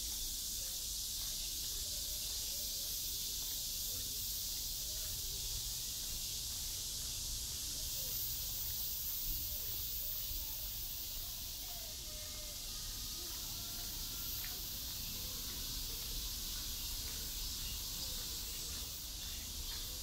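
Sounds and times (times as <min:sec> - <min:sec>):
insects chorus shrill hiss: 0:00.0 - 0:20.0.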